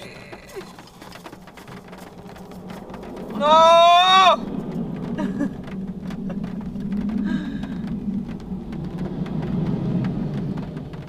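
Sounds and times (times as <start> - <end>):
low hum: 0.0 - 11.0
rain on car roof: 0.0 - 11.0.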